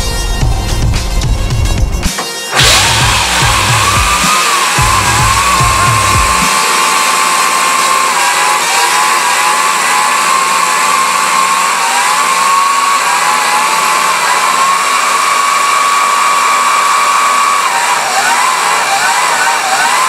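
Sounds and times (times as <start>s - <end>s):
electric motor whining: 1.8s - 20.0s.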